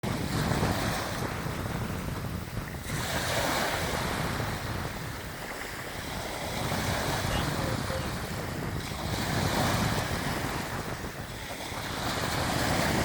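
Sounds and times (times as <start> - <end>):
ocean waves breaking: 0.0 - 13.0
wind rumbling on microphone: 0.0 - 13.0.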